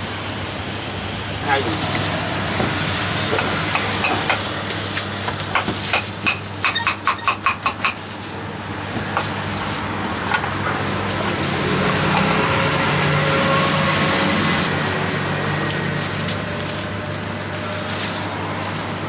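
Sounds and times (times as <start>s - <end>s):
street background noise: 0.0s - 19.0s.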